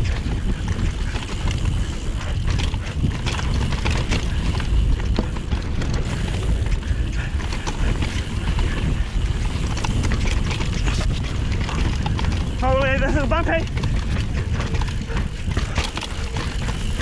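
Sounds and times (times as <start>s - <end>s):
bike rattling over rough trail: 0.0s - 17.0s
wind buffeting microphone: 0.0s - 17.0s.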